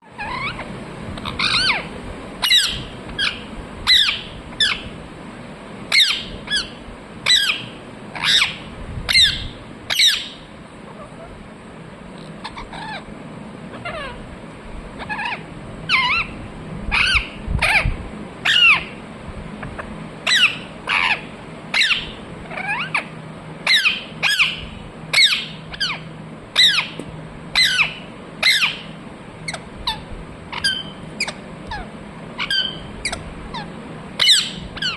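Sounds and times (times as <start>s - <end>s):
parrot calling: 0.0s - 5.0s, 5.9s - 11.4s, 12.2s - 13.1s, 13.7s - 14.2s, 15.0s - 19.0s, 19.6s - 34.9s.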